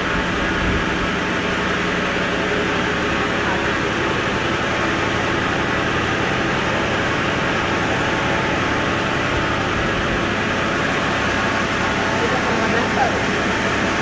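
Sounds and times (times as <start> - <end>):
noodle making machine running: 0.0 - 14.0.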